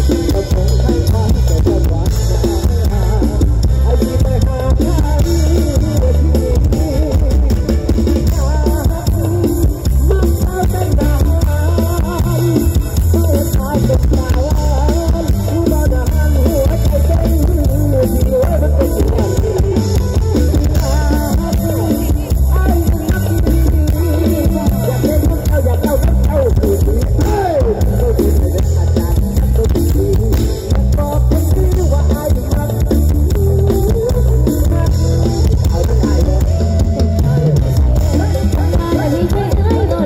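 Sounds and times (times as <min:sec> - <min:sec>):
live stage music through pa: 0:00.0 - 0:40.0.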